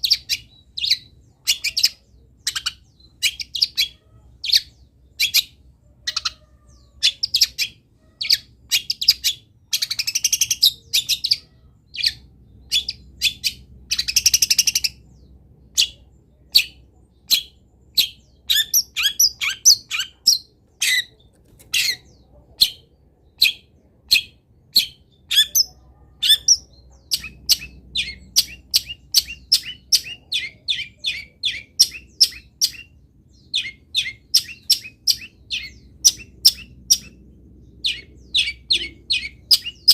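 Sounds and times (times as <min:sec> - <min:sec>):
bird singing chirps and whistles: 0:00.0 - 0:15.1, 0:16.6 - 0:21.1, 0:23.4 - 0:37.2, 0:37.8 - 0:39.9.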